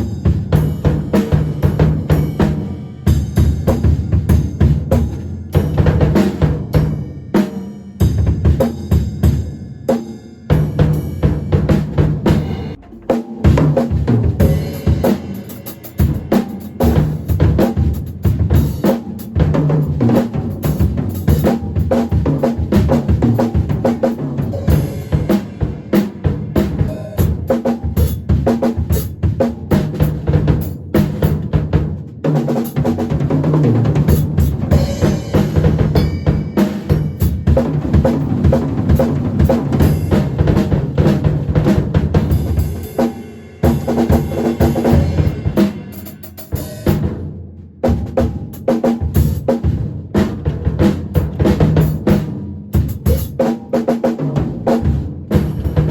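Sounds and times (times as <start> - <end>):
acoustic drum kit groove: 0.0 - 55.9.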